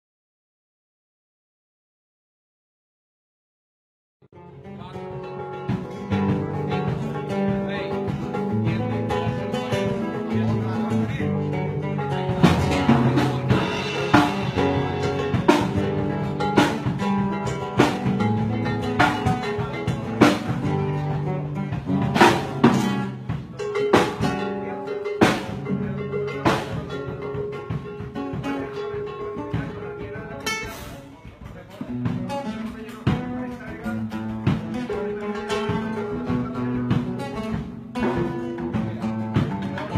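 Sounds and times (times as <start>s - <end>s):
guitar playing: 4.3s - 39.9s
drum kit playing: 4.4s - 39.9s.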